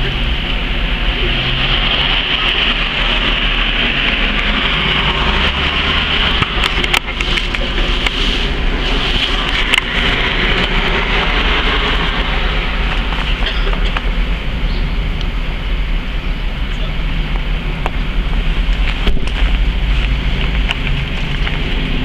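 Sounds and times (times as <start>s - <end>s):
loud rumbling noise: 0.0s - 22.0s.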